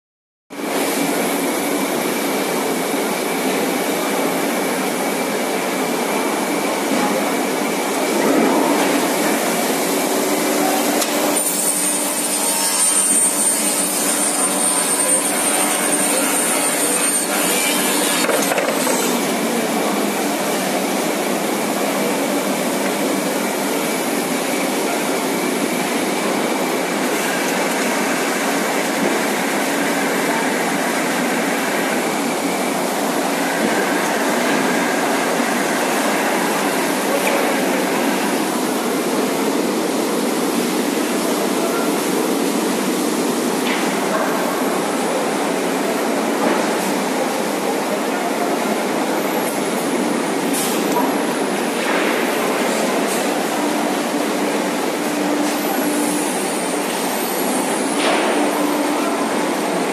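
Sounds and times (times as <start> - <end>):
assembly line machinery: 5.7 - 59.9.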